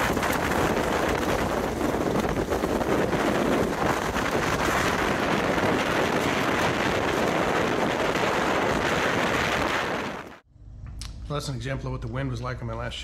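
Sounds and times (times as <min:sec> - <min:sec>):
strong wind buffeting microphone: 0:00.0 - 0:10.4.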